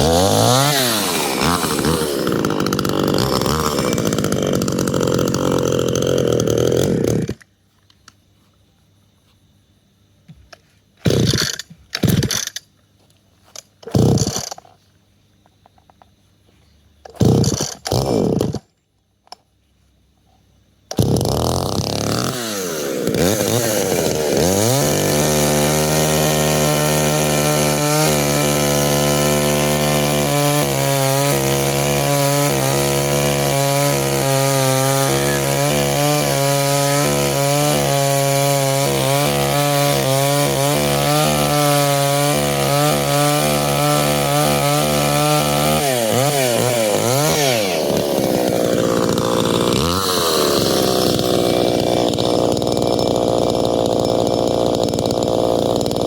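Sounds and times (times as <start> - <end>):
chainsaw cutting log: 0.0 - 7.5, 11.0 - 12.6, 13.5 - 14.7, 17.1 - 18.7, 20.9 - 56.0.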